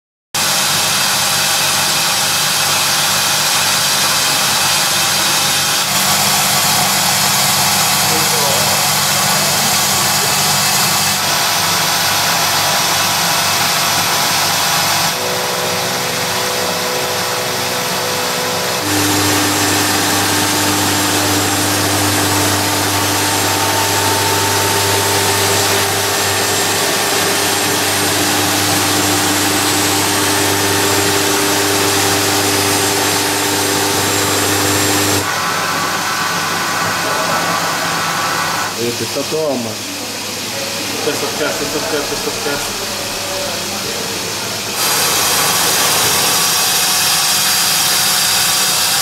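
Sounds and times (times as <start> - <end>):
machine mechanical hum with hiss: 0.4 - 49.0.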